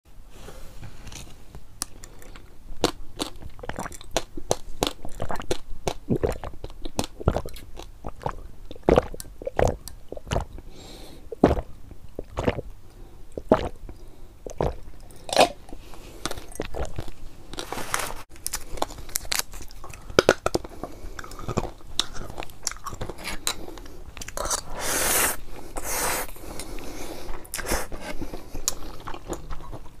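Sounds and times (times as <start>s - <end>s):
crunching and chewing food: 1.1s - 12.7s, 13.3s - 24.7s, 25.6s - 30.0s.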